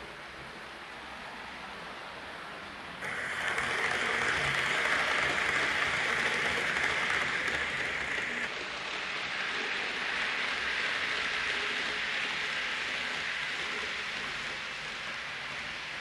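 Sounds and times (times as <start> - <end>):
model trains running on rails: 0.0 - 16.0.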